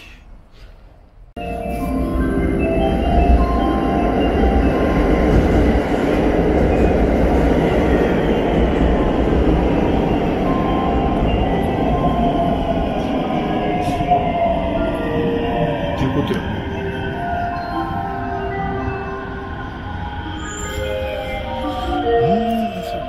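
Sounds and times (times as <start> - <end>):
train wheels rumbling: 1.9 - 22.0.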